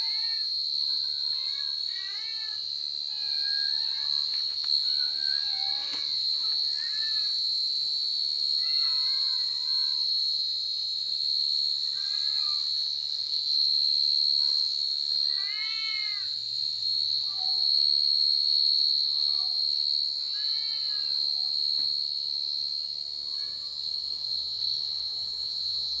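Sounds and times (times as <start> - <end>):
night insects droning: 0.0 - 26.0.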